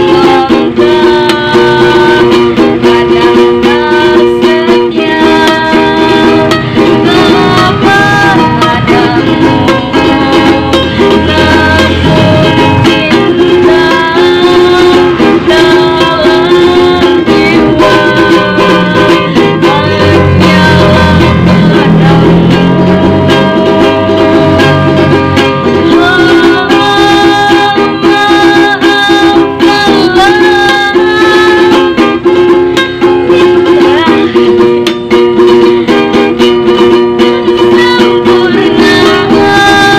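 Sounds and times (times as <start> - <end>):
child singing: 0.0 - 22.8, 25.8 - 32.0, 33.2 - 34.6, 37.4 - 39.9
ukulele strumming: 0.0 - 39.9.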